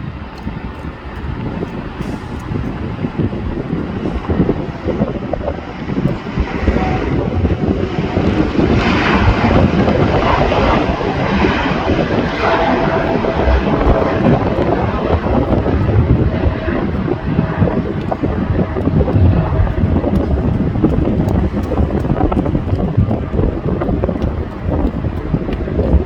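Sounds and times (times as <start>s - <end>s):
jet airliner engines rumbling: 0.0s - 26.0s.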